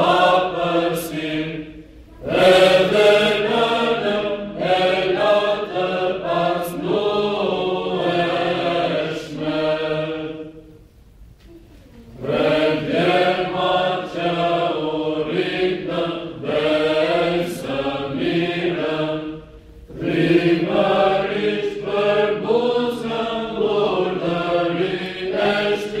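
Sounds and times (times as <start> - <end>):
mixed choir chanting a cappella: 0.0 - 10.8, 12.2 - 26.0.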